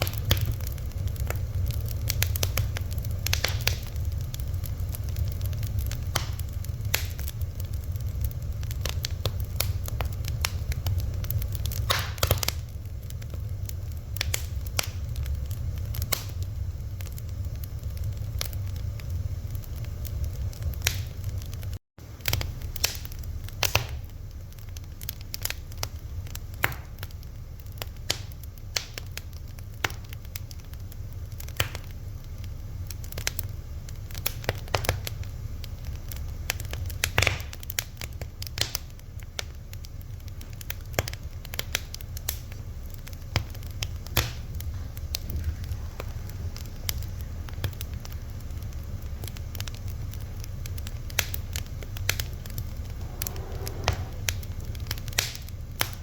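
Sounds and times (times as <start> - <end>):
fire crackling and popping: 0.0 - 56.0
steady low rumble: 0.0 - 56.0.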